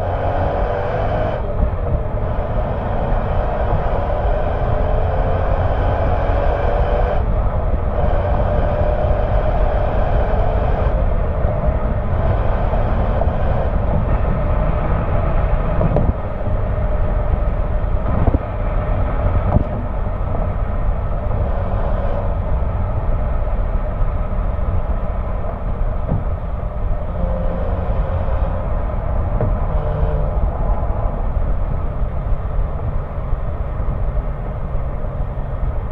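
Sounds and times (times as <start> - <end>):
car exhaust at highway cruise: 0.0 - 35.9
wind and road rumble: 0.0 - 35.9.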